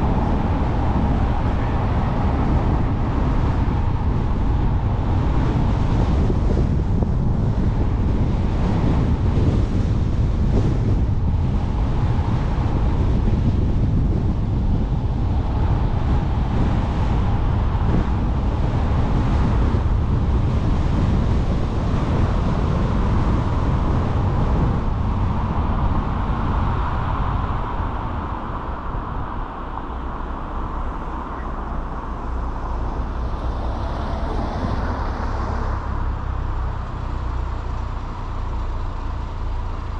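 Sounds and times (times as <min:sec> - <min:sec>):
tyre and road noise: 0:00.0 - 0:39.9
wind rushing over microphone: 0:00.0 - 0:39.9.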